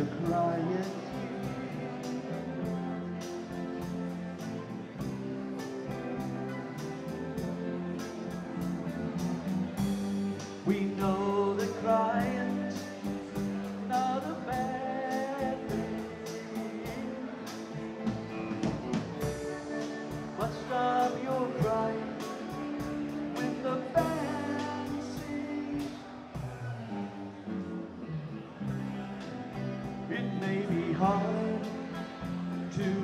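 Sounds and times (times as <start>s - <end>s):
steady drum beat: 0.0s - 26.9s
electric guitars: 0.0s - 33.0s
keyboard: 0.0s - 33.0s
rock band playing: 0.0s - 33.0s.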